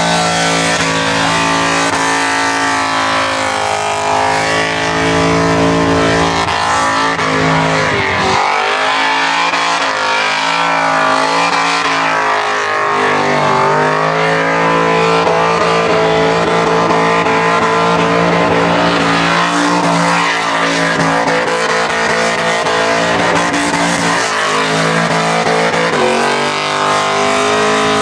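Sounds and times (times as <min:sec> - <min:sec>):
car engine revving high: 0:00.0 - 0:28.0.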